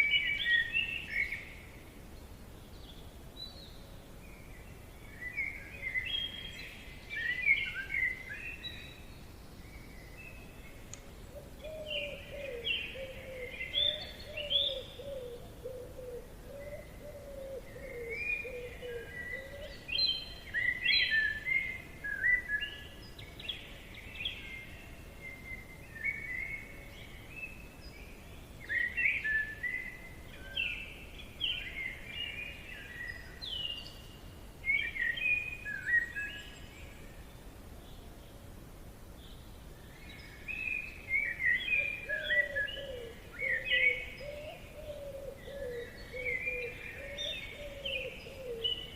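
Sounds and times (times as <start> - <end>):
faint steady hiss: 0.0 - 48.9
songbirds singing: 0.0 - 48.9.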